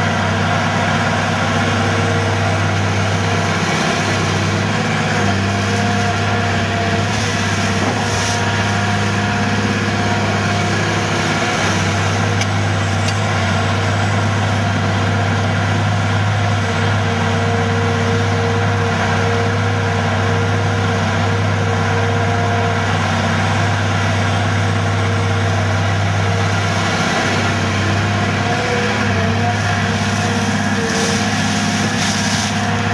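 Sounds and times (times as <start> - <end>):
hydraulic whine: 0.0 - 21.7, 22.7 - 32.9
diesel engine running: 0.0 - 32.9.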